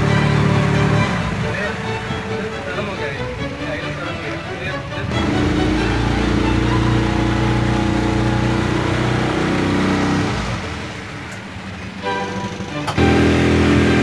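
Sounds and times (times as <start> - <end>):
boat outboard motor running: 0.0 - 14.0.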